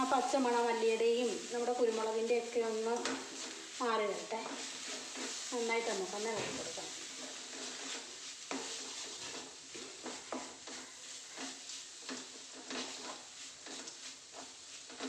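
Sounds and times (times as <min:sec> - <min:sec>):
light frying sizzle: 0:00.0 - 0:15.0
spatula scraping metal pan: 0:00.0 - 0:15.0.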